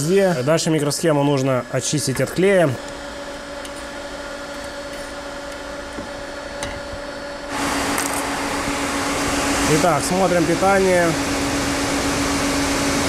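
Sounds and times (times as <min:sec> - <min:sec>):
fan-blown air rushing: 0:00.0 - 0:13.0
mechanical hum: 0:00.0 - 0:13.0.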